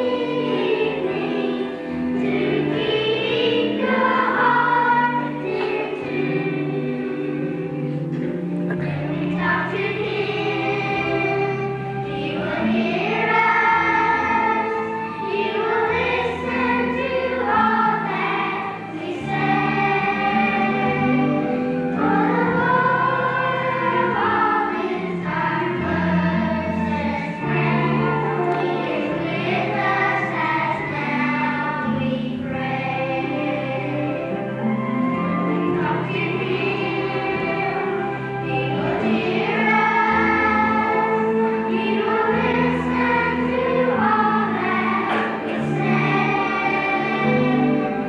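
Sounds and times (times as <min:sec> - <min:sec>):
children's choir singing: 0:00.0 - 0:48.0.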